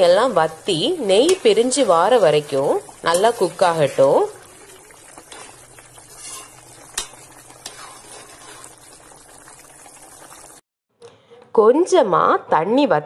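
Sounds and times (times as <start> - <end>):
gravy simmering and bubbling: 0.0 - 10.6.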